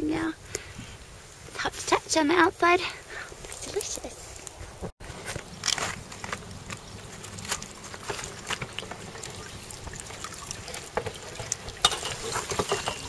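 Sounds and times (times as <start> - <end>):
water trickling and splashing: 0.5 - 13.0.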